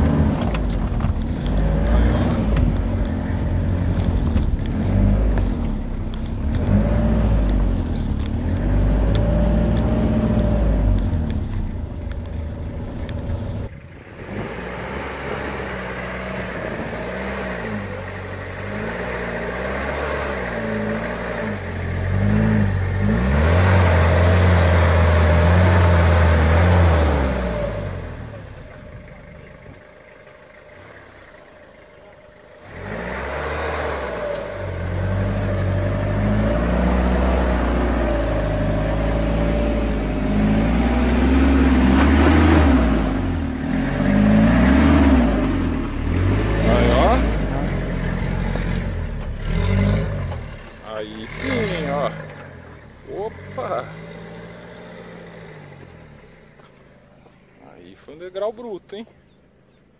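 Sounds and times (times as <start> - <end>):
diesel engine labouring and revving: 0.0 - 59.9.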